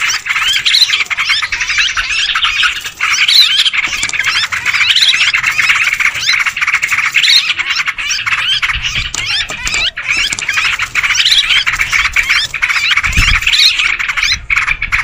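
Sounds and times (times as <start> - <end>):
chorus of birds chirping: 0.0 - 15.0.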